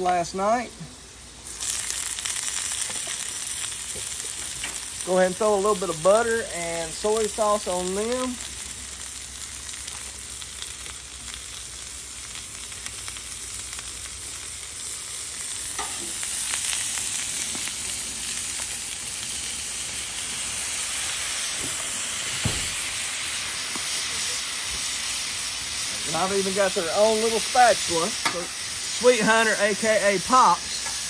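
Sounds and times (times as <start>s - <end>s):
onions sizzling on a griddle: 0.0s - 31.0s.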